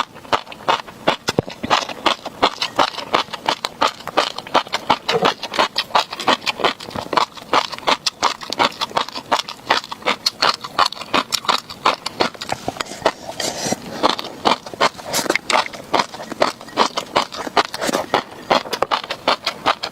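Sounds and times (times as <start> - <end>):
chewing fish roe crackling: 0.0 - 19.9.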